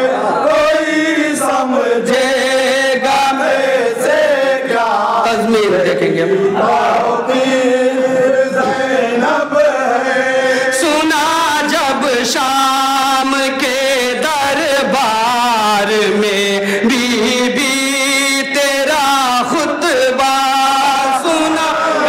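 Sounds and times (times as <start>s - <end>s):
men chanting devotional poem: 0.0s - 22.0s.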